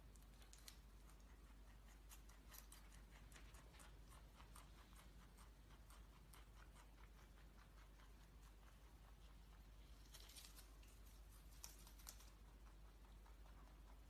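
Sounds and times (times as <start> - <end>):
faint crisp clicks and crackles: 0.0 - 14.0.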